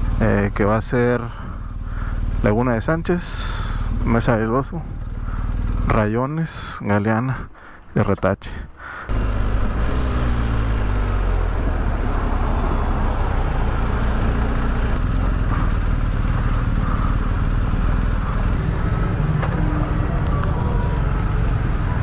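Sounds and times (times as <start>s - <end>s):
motorcycle engine running: 0.0s - 6.4s, 9.1s - 22.0s.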